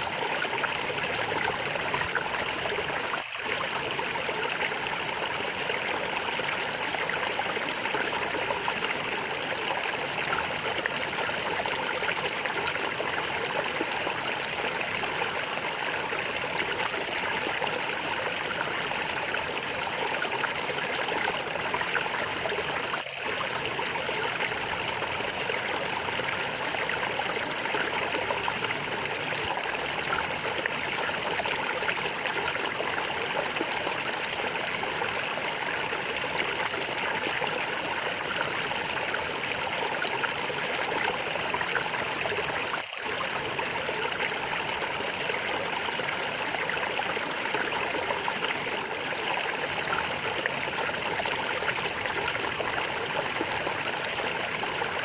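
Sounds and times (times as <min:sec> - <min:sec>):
water gurgling and trickling: 0:00.0 - 0:55.0.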